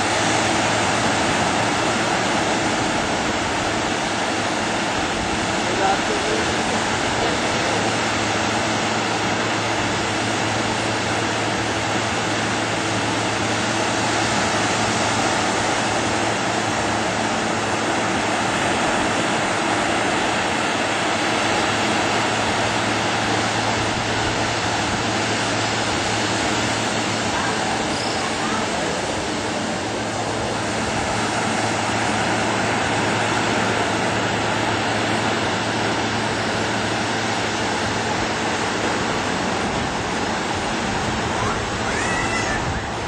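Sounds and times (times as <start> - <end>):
surf breaking on a beach: 0.0 - 43.0.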